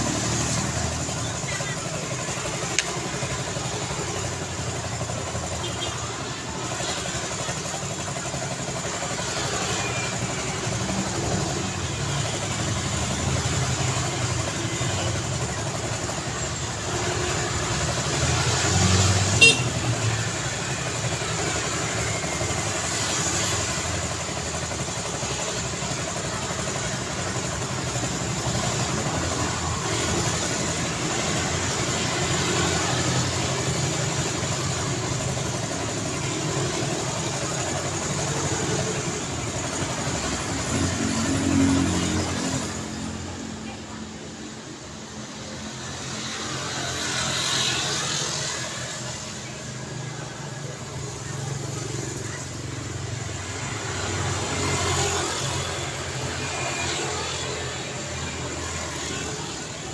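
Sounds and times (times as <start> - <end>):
passing road traffic: 0.0 - 59.9.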